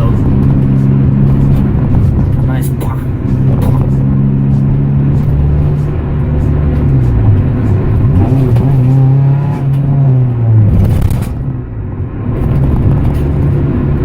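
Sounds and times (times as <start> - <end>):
four-cylinder engine driving: 0.0 - 14.0.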